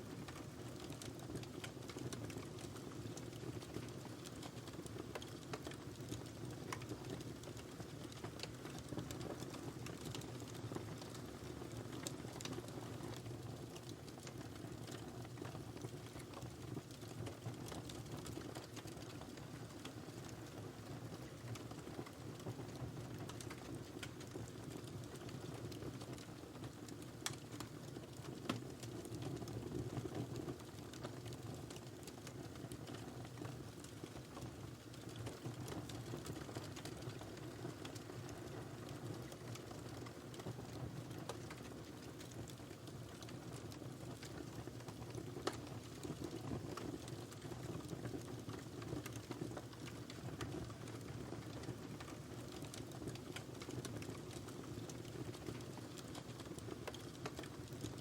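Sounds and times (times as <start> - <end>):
wood fire in a fireplace: 0.0 - 58.0.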